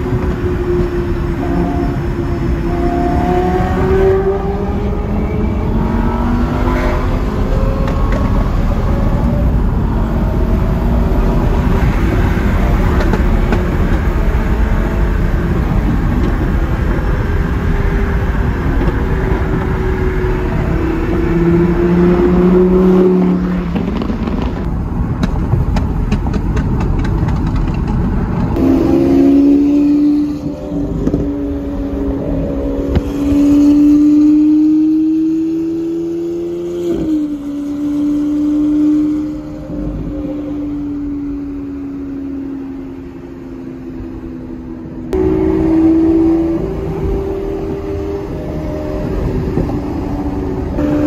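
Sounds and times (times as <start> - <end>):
car engine drone: 0.0 - 51.0
road noise: 0.0 - 51.0.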